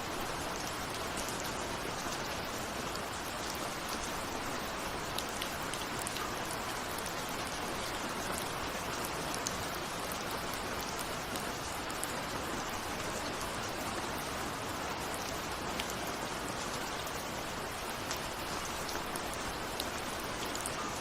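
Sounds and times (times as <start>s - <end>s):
rain pattering on a window: 0.0s - 21.0s.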